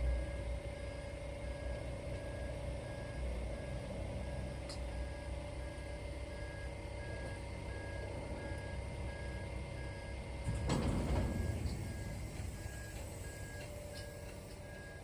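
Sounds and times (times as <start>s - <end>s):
truck backup alarm beeping: 0.0s - 15.0s
truck engine running: 0.0s - 15.0s.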